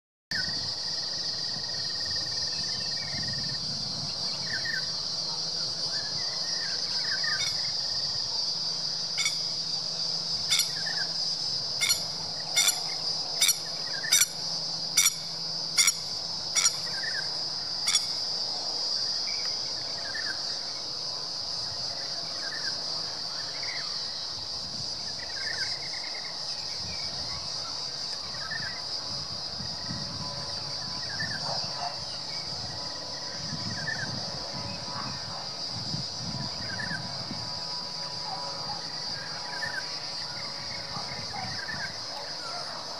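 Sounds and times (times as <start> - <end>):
high-pitched insect drone: 0.3 - 42.9.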